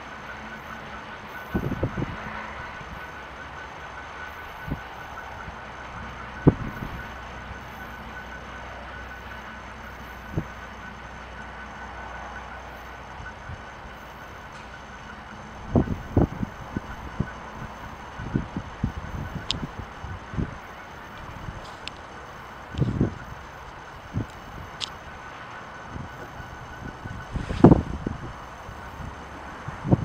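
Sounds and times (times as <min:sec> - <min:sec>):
distant freight train rumble: 0:00.0 - 0:30.0
faint high ringing tone: 0:00.0 - 0:30.0.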